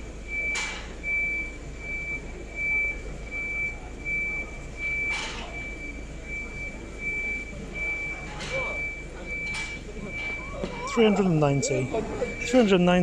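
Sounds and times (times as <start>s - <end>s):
reversing alarm beeping: 0.0s - 13.0s
street noise: 0.0s - 13.0s.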